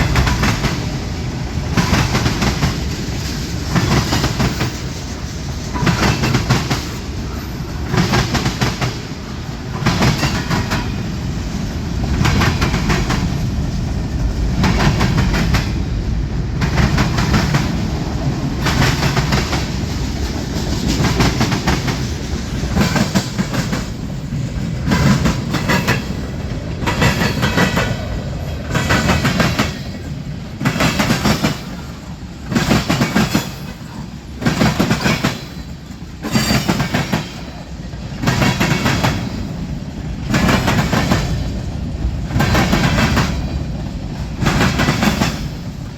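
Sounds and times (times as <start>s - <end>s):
train wheels clacking over rail joints: 0.0s - 15.9s, 16.6s - 45.9s
freight train low rumble: 0.0s - 45.9s.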